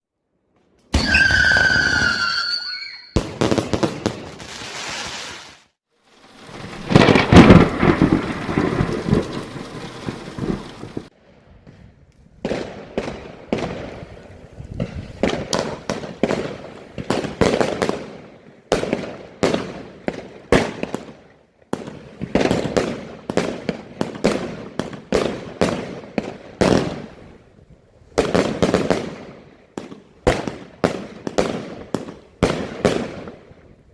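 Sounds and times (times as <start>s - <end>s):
high whistling fireworks: 0.9s - 33.9s
firework bursts and bangs: 3.2s - 33.9s.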